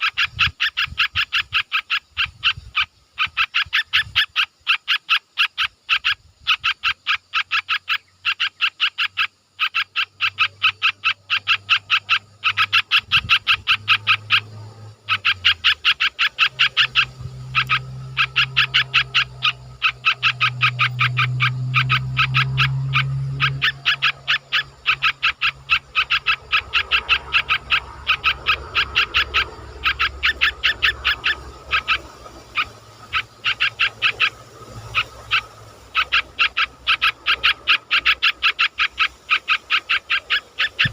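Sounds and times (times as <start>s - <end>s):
animal calling in fast notes: 0.0s - 40.9s.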